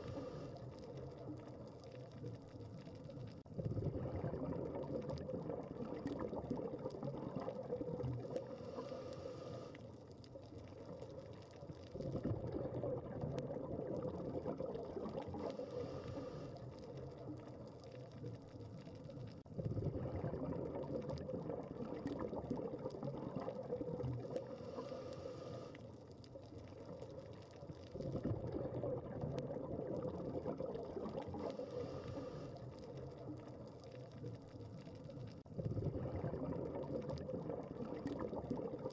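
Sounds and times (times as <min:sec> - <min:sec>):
exhaled bubbles gurgling underwater: 0:00.0 - 0:38.9.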